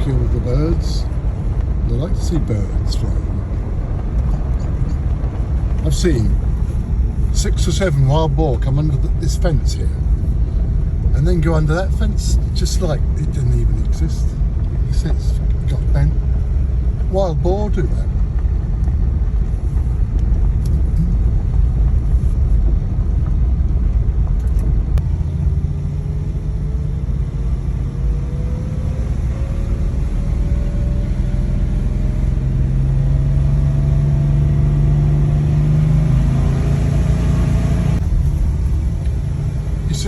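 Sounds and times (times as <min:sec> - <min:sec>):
car engine accelerating: 0:00.0 - 0:40.0
road rumble: 0:00.0 - 0:40.0.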